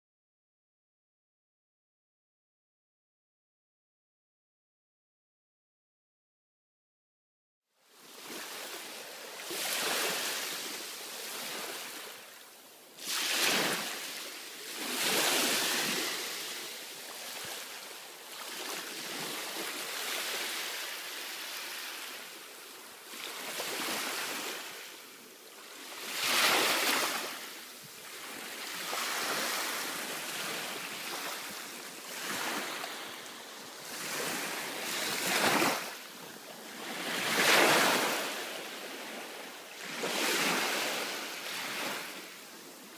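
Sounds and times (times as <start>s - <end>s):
waves washing onto beach: 7.8s - 42.9s.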